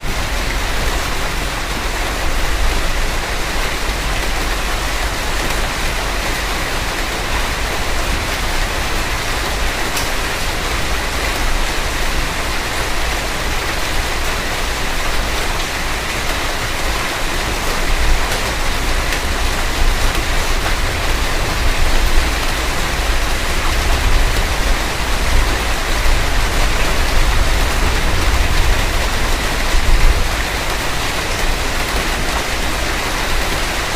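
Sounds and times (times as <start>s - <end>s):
rain hissing on a car: 0.0s - 33.9s.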